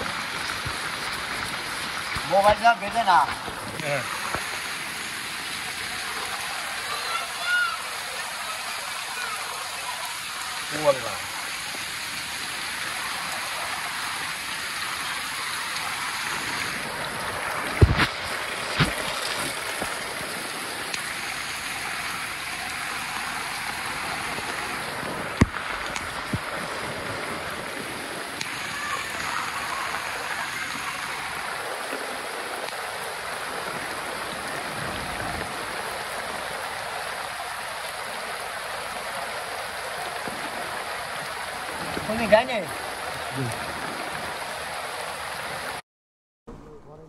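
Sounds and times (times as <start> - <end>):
heavy rain on floodwater: 0.0 - 45.8
water churned by rickshaw wading: 0.0 - 45.8.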